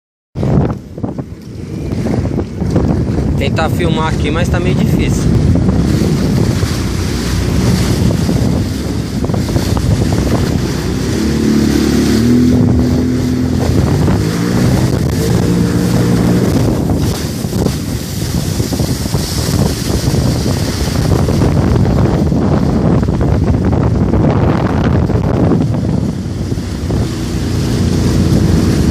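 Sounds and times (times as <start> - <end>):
jet ski engine drone: 0.4 - 28.9
water rushing: 0.4 - 28.9
wind buffeting microphone: 0.4 - 28.9.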